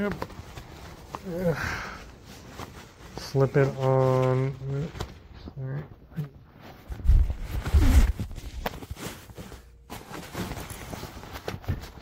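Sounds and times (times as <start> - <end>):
fabric bag rustling: 0.0 - 12.0.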